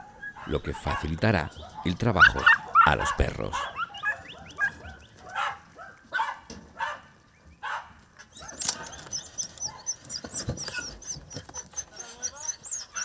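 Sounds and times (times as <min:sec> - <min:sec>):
hounds barking and yelping: 0:00.0 - 0:13.0.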